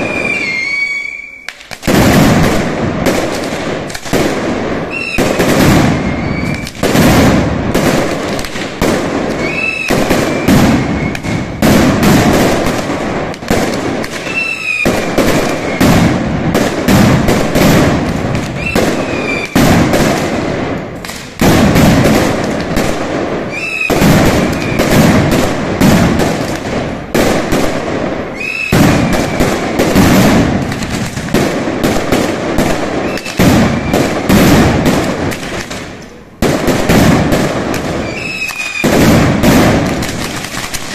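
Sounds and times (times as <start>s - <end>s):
firecrackers exploding: 0.0s - 40.9s.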